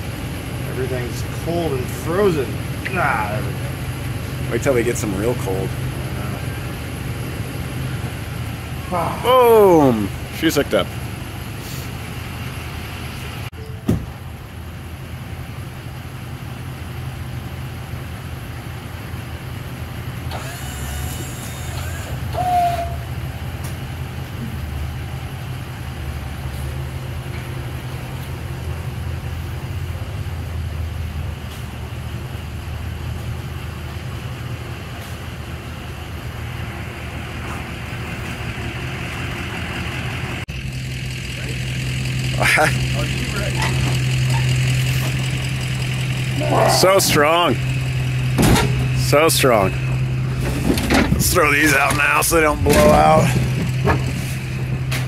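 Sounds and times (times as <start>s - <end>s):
pickup truck engine idling: 0.0s - 13.5s, 14.1s - 55.0s.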